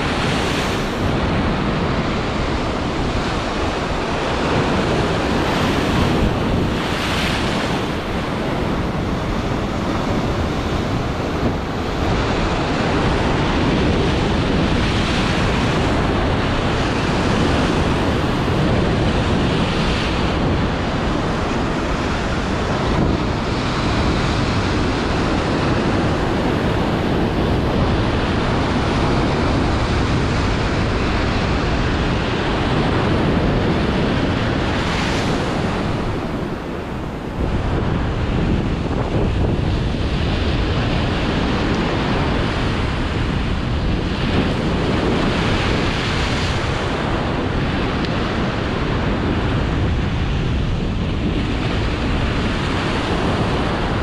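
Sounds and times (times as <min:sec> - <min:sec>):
surf breaking on shore: 0:00.0 - 0:54.0
wind buffeting microphone: 0:00.0 - 0:54.0.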